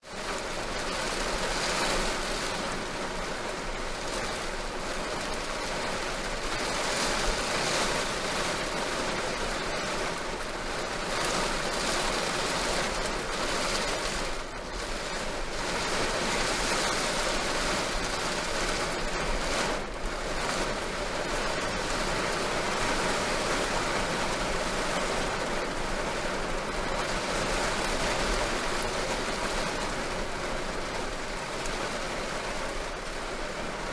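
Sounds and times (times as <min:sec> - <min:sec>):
heavy rain on car roof: 0:00.0 - 0:33.9.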